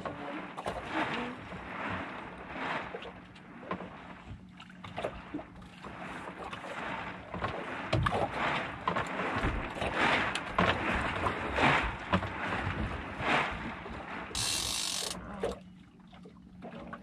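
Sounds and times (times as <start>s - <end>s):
water sloshing against a hull: 0.0s - 17.0s.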